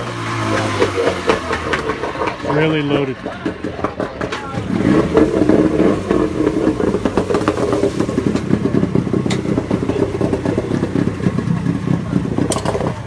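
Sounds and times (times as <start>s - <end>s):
engine idling with uneven putter: 0.0s - 13.0s.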